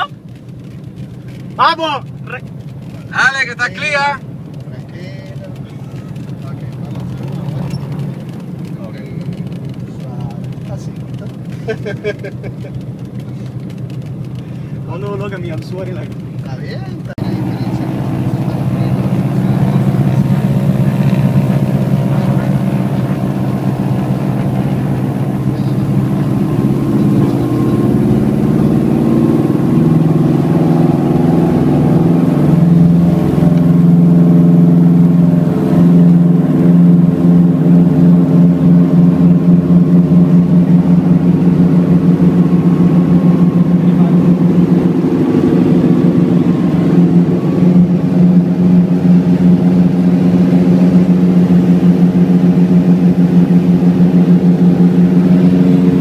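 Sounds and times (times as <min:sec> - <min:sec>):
piston aircraft engines droning: 0:00.0 - 0:56.0.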